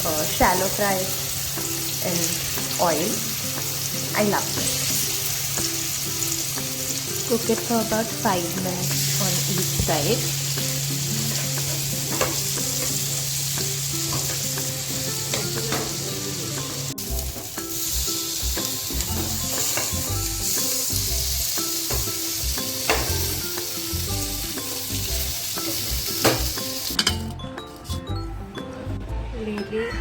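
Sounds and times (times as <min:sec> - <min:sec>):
meat sizzling in hot oil: 0:00.0 - 0:27.0.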